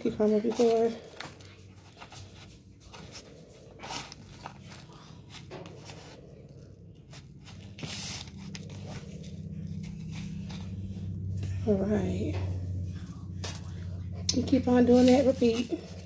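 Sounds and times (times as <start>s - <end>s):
dough rolled in sugar rustling: 0.0s - 16.0s
low hum: 0.0s - 16.0s.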